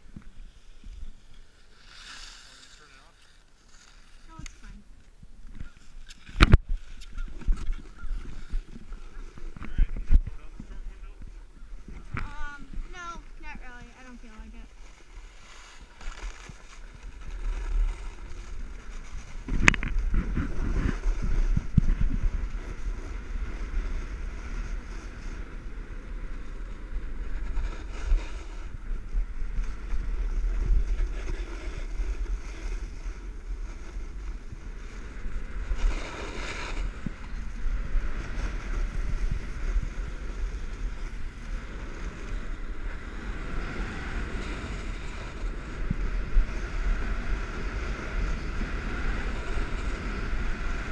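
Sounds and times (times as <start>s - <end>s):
snowboard scraping over snow: 0.0s - 4.9s, 6.4s - 50.9s
wind buffeting microphone: 4.4s - 50.9s.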